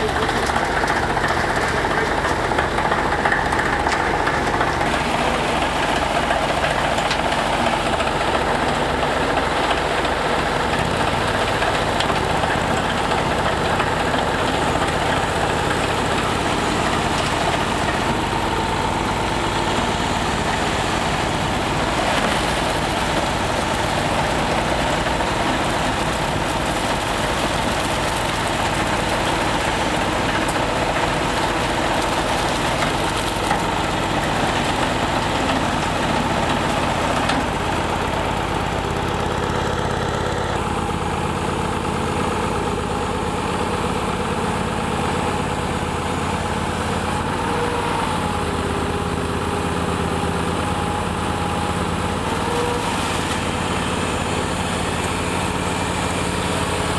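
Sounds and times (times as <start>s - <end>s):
backhoe engine idling: 0.0s - 56.9s
mini skidsteer engine: 0.0s - 56.9s.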